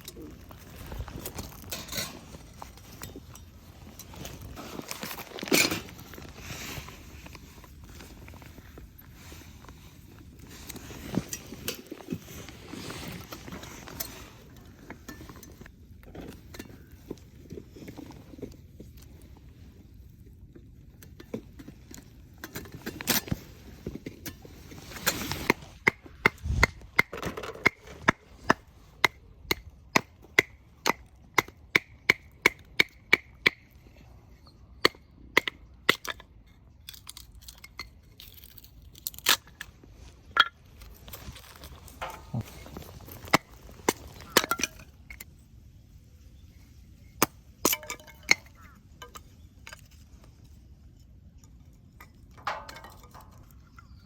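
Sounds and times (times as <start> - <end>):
handling and rustling: 0.0 - 29.0, 36.7 - 54.0.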